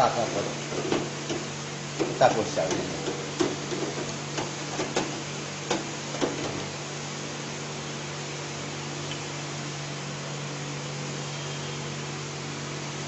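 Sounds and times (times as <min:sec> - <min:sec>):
deep frying sizzle: 0:00.0 - 0:13.0
low fryer hum: 0:00.0 - 0:13.0.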